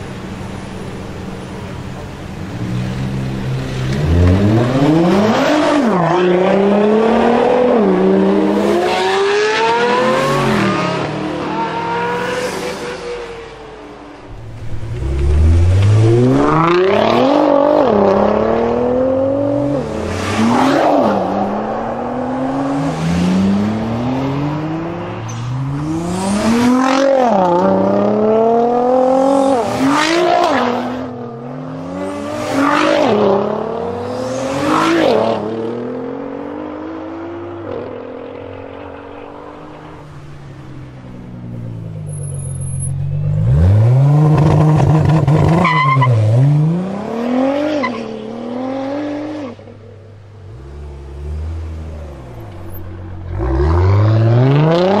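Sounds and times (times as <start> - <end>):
car engine accelerating through gears: 2.5 - 12.8, 14.3 - 40.0, 42.1 - 49.7, 50.5 - 55.0.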